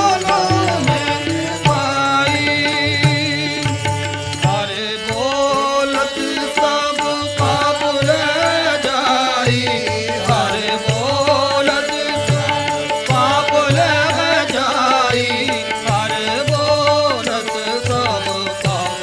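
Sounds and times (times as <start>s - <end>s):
harmonium: 0.0s - 19.0s
person singing: 0.0s - 19.0s.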